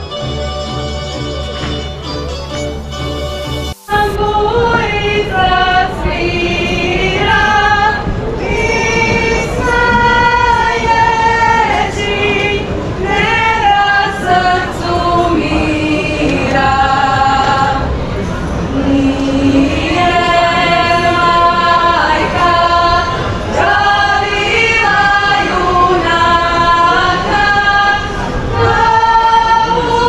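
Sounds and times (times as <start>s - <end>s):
women singing together: 3.9s - 30.0s.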